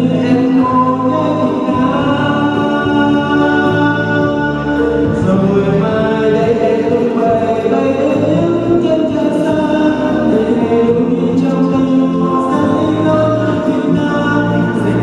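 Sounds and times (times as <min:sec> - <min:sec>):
man singing into a microphone: 0:00.0 - 0:15.0
musical accompaniment: 0:00.0 - 0:15.0.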